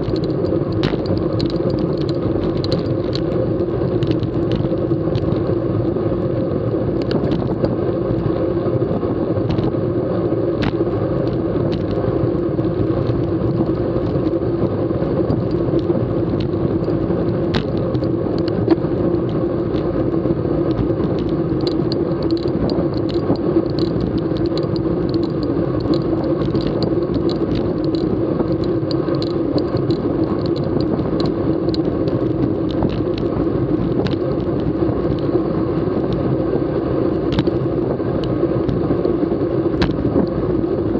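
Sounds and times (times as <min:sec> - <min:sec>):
bicycle clicks and rattles: 0:00.0 - 0:40.9
bicycle tyre noise: 0:00.0 - 0:40.9
wind rumble: 0:00.0 - 0:40.9.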